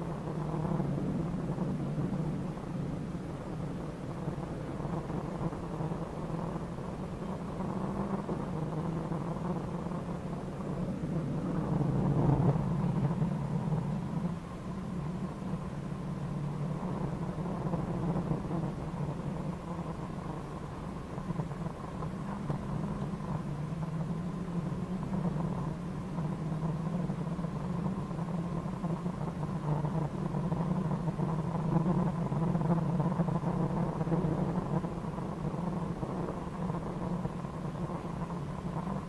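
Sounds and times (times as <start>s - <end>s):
muffled car engine drone: 0.0s - 39.0s.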